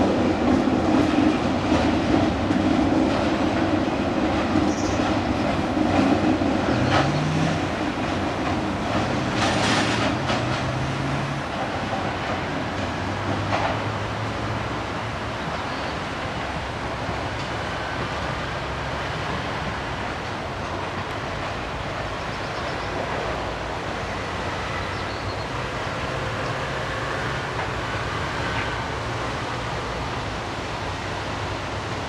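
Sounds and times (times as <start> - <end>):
freight train rolling on rails: 0.0 - 32.0.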